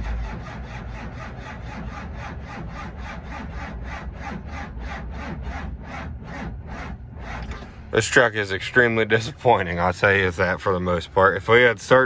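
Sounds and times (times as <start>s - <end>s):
starter cranking diesel engine: 0.0s - 12.0s.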